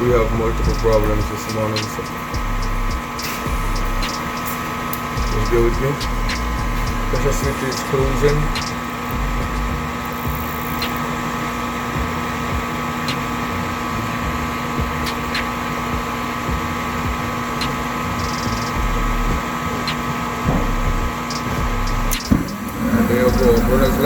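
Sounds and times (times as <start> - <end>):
furnace inducer motor humming: 0.0 - 24.0.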